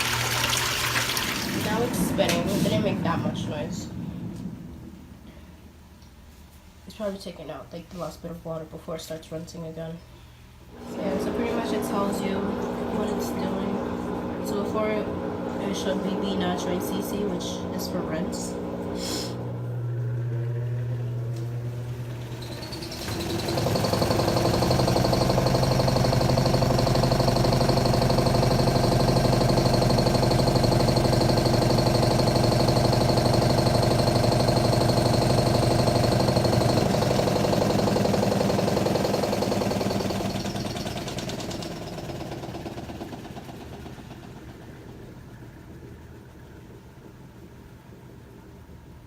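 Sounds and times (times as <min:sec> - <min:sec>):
washing machine motor humming: 0:00.0 - 0:07.2, 0:09.4 - 0:49.0.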